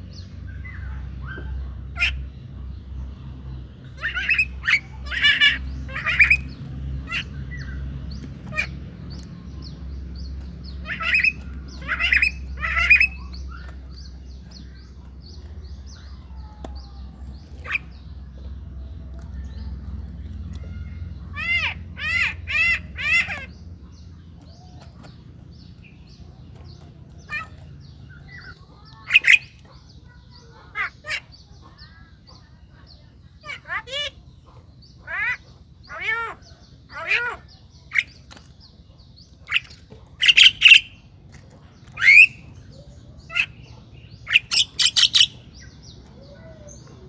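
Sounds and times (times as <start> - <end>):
bird calls: 0.0 - 47.0.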